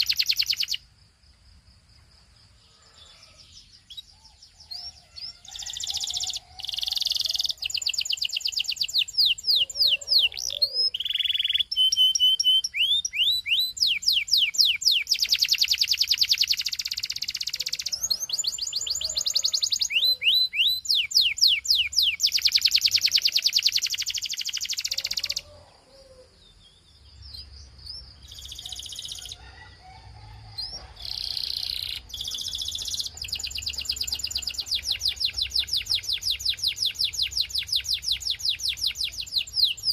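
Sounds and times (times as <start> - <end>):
canary singing trills: 0.0 - 0.8, 2.6 - 29.7, 30.6 - 39.9.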